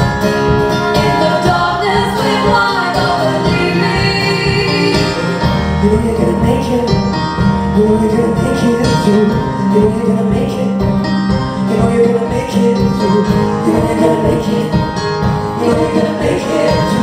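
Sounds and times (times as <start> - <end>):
live folk-rock band: 0.0 - 17.0
plucked and strummed strings: 0.0 - 17.0.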